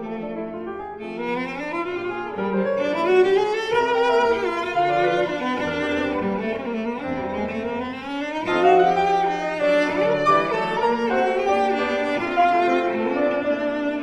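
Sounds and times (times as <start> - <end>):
orchestral bowed strings: 0.0 - 14.0.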